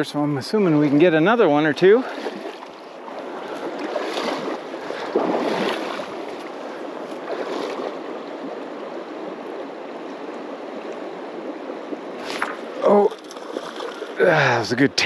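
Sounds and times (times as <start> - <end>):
stream rushing over rocks: 0.6 - 14.8.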